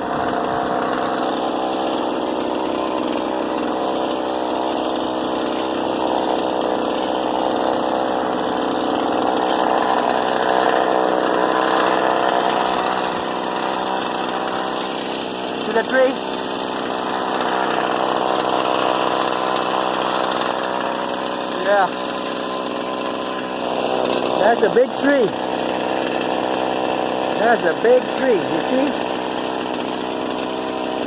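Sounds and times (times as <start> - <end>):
chainsaw engine running: 0.0 - 31.0.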